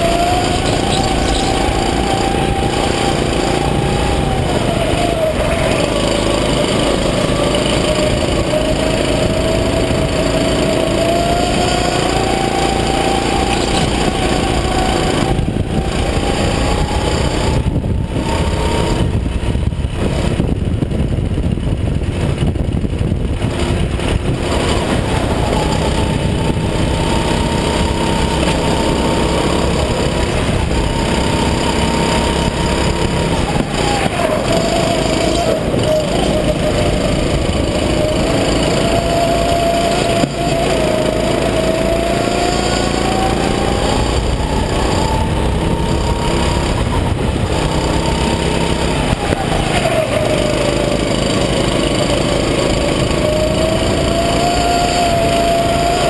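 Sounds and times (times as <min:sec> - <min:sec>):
go-kart engine whine: 0:00.0 - 0:56.0.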